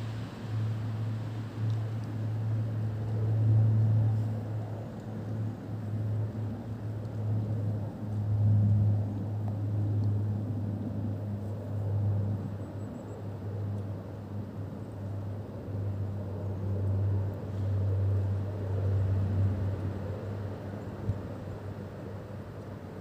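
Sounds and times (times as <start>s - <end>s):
propeller aircraft droning overhead: 0.0s - 23.0s.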